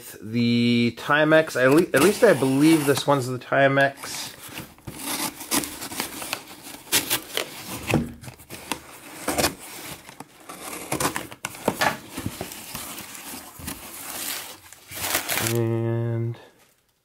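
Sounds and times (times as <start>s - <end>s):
cardboard and tape scraping: 1.5s - 15.6s.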